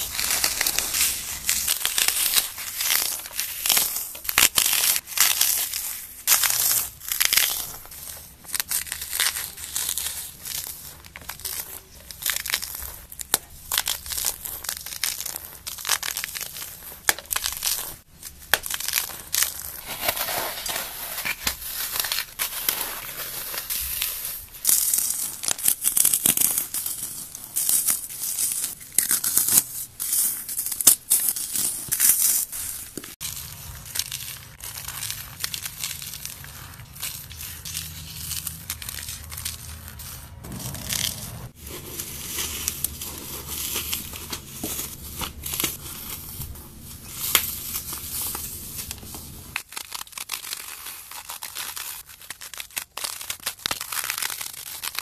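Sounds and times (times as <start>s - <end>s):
floral foam crunching: 0.0s - 55.0s.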